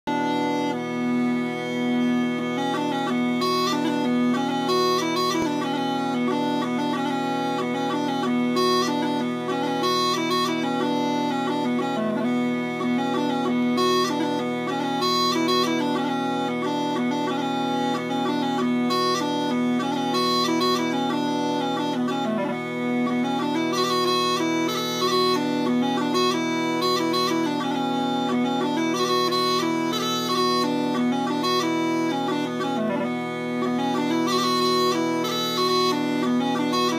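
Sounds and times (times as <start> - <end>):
bagpipe drones: 0.1 - 36.9.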